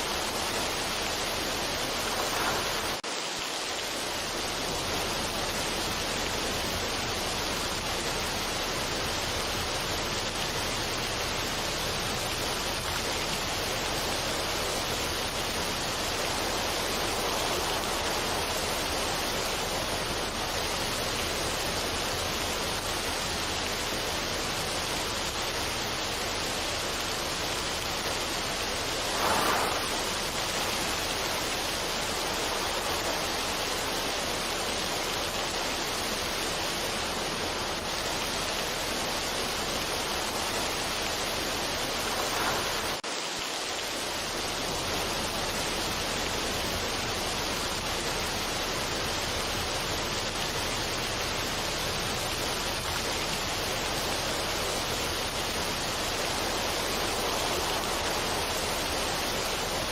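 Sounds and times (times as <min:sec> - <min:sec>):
steady rushing noise: 0:00.0 - 0:59.9.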